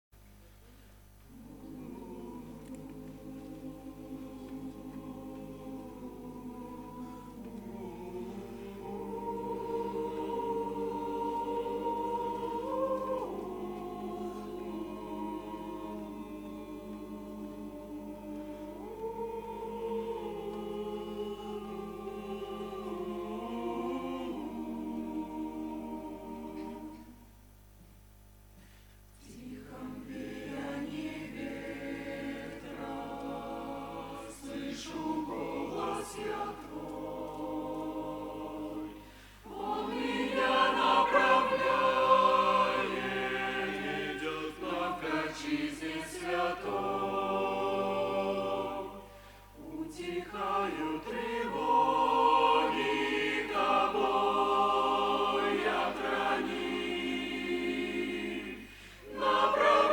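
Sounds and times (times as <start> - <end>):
choir singing a hymn: 1.3 - 27.4, 29.2 - 59.9.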